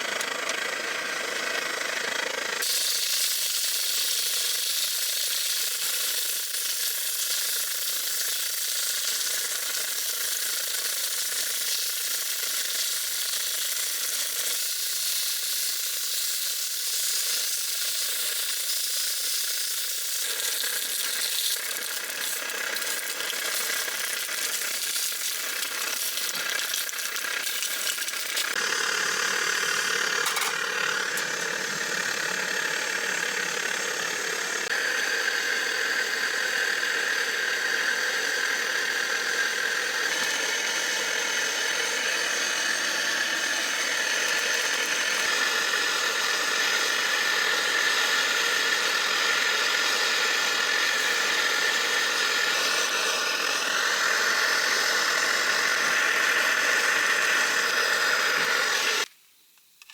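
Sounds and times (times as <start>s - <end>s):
water heating with steady hiss: 2.3s - 59.9s.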